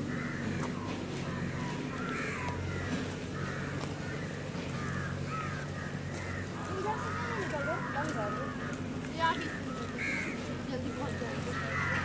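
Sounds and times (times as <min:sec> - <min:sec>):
crows cawing: 0:00.0 - 0:12.0.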